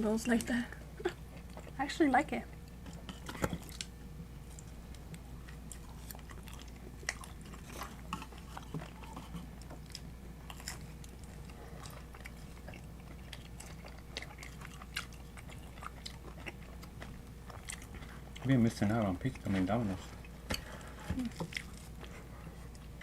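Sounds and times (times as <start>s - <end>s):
food crunching: 2.6s - 23.0s
people biting and chewing: 2.6s - 23.0s.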